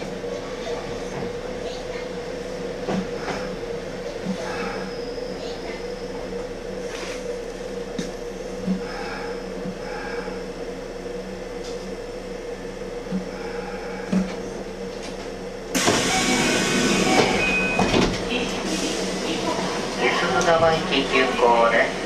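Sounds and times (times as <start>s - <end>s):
electrical hum of train equipment: 0.0s - 22.0s.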